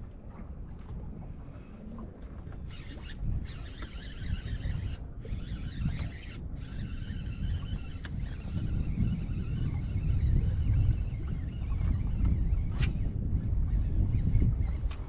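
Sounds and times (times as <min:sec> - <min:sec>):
choppy water around boat: 0:00.0 - 0:15.0
wind buffeting microphone: 0:00.0 - 0:15.0.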